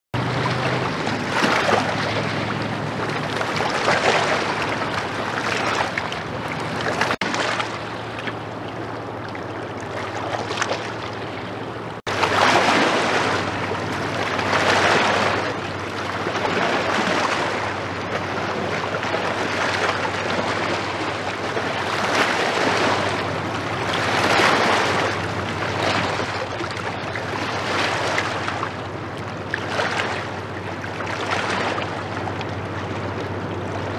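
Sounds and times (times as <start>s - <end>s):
ship diesel engine hum: 0.2s - 33.9s
waves washing against a bank: 0.2s - 33.9s.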